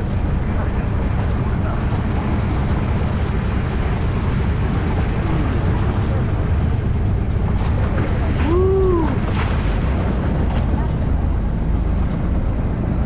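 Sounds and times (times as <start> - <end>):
faint voices: 0.0 - 13.0
low engine rumble: 0.0 - 13.0
wind noise: 0.0 - 13.0.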